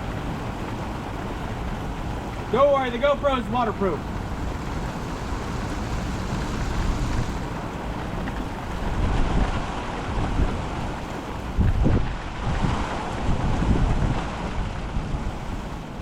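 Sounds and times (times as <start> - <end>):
wind and rain buffeting microphone: 0.0 - 16.0.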